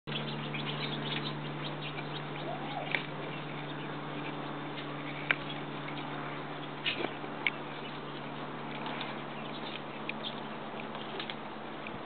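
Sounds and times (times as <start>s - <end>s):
birds chirping high: 0.1s - 12.0s
steady low hum: 0.1s - 12.0s.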